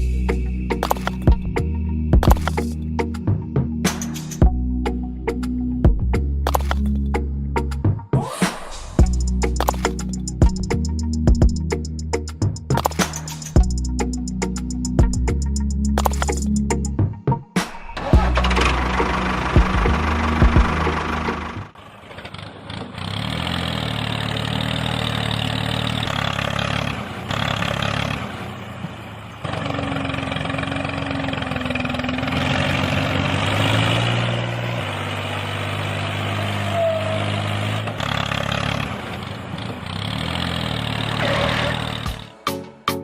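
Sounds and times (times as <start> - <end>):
tractor engine running: 0.0 - 8.0, 9.0 - 17.0, 17.6 - 42.5.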